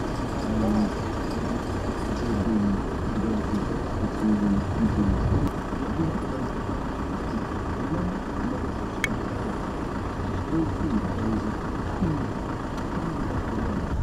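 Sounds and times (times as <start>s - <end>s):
engine-like outdoor rumble: 0.0s - 14.0s.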